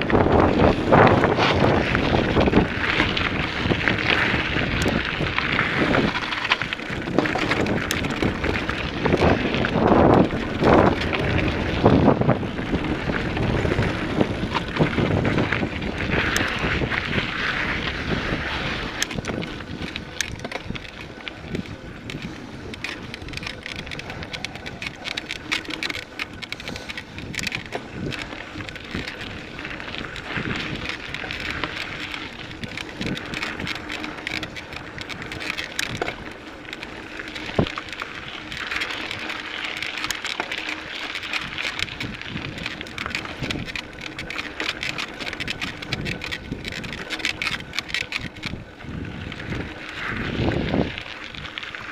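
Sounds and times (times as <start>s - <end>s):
bike clicking and rattling: 0.0s - 51.9s
bike tyres on gravel trail: 0.0s - 51.9s.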